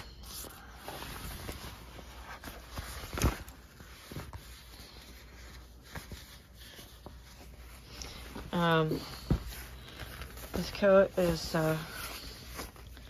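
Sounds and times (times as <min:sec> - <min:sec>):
jacket fabric rustling: 0:00.0 - 0:13.0.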